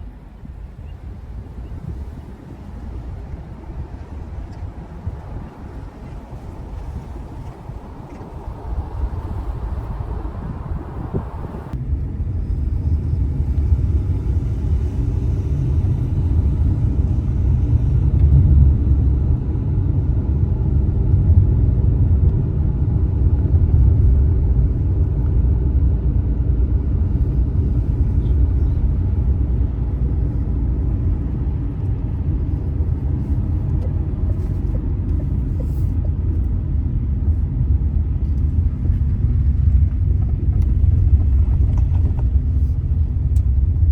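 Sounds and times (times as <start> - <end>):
car engine and tyres rumbling: 0.0 - 43.9.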